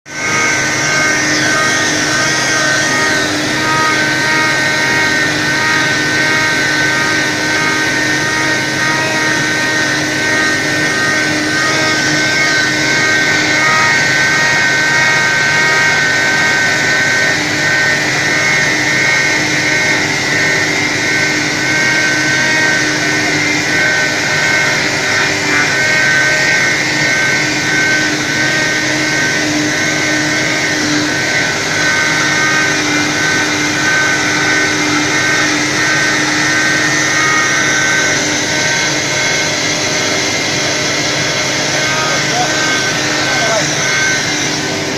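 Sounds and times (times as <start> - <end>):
road repair machine engine running: 0.1 - 44.9
steady high whine: 0.1 - 44.9.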